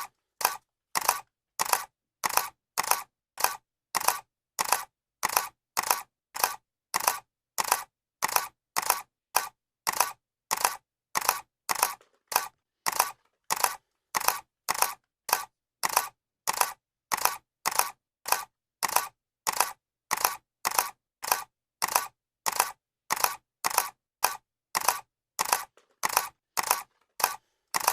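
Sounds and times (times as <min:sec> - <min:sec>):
camera shutter clicking: 0:00.0 - 0:27.9.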